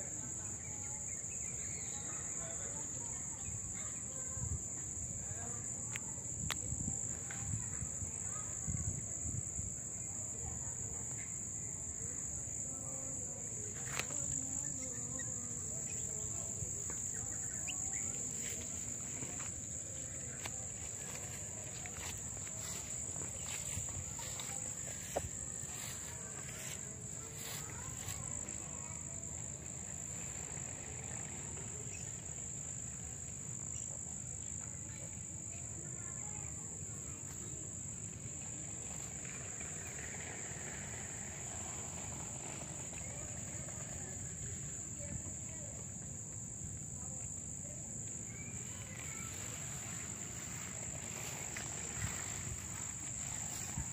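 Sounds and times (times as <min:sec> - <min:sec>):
insect chorus: 0:00.0 - 0:53.9.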